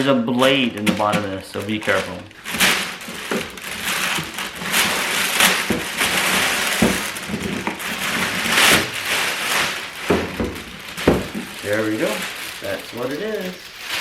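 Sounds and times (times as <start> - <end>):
packaging rustling and scraping: 0.4 - 14.0
knocks: 0.8 - 12.3.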